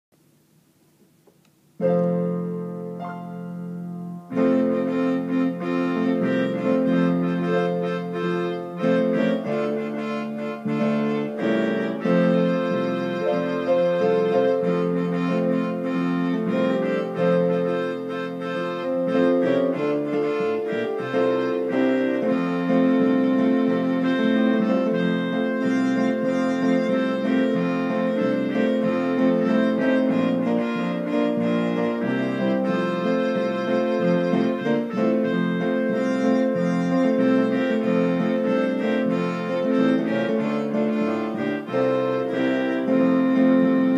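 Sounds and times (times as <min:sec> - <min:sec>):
electric keyboard gospel chords: 0:01.2 - 0:43.9.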